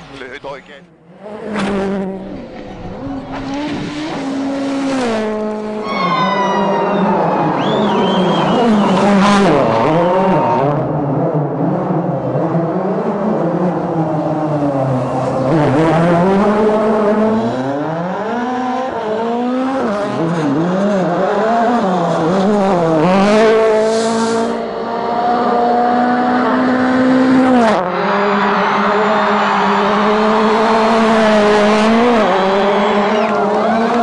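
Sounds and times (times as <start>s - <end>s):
rally car engine at full throttle: 0.0s - 34.0s.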